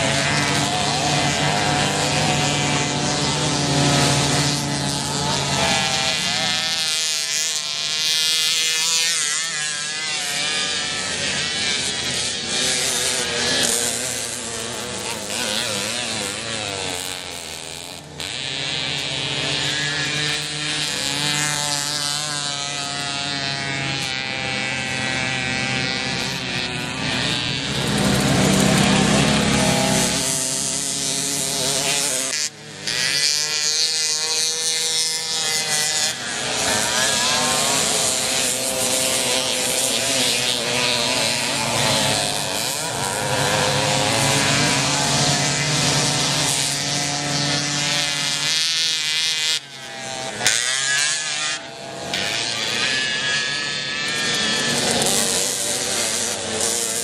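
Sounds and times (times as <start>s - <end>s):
moped engines buzzing: 0.0s - 57.0s.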